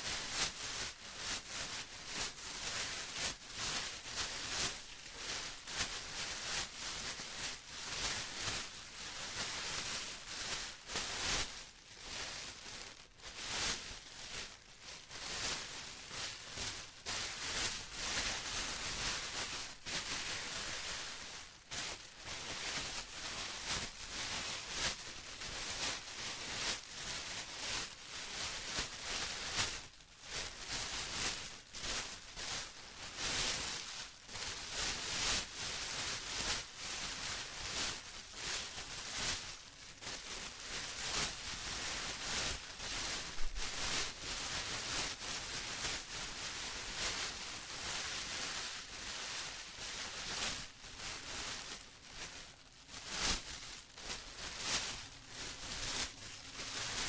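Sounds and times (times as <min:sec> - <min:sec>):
plastic rustling and crinkling: 0:00.0 - 0:57.0.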